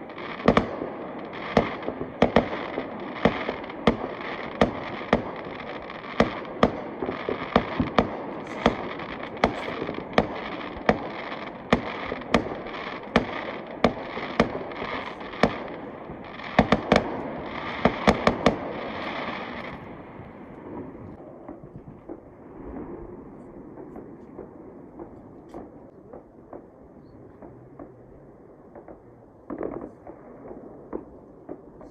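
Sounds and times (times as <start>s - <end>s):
continuous background noise: 0.0s - 31.9s
fireworks bangs: 0.0s - 31.9s.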